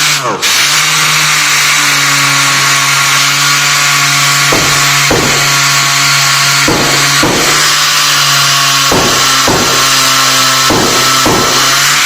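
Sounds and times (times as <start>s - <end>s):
angle grinder grinding metal: 0.0s - 12.0s
grinder biting steel: 0.0s - 12.0s.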